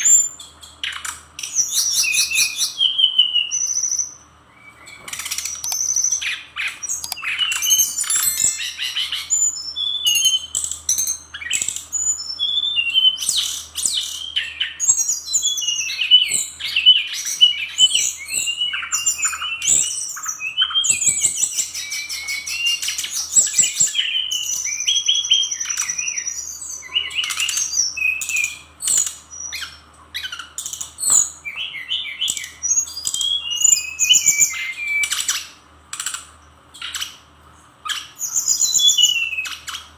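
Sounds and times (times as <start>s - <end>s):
bird singing chattering whistles: 0.0s - 36.2s, 37.8s - 39.9s.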